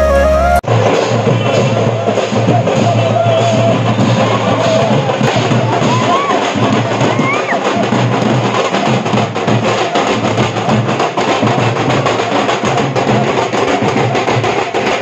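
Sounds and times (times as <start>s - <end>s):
cymbals: 0.0s - 15.0s
marching drums: 0.0s - 15.0s.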